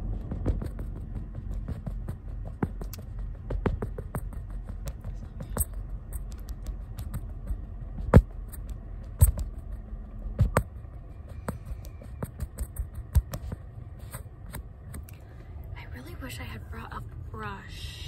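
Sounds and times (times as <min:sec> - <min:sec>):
fingernails rubbing on microphone: 0:00.3 - 0:15.0.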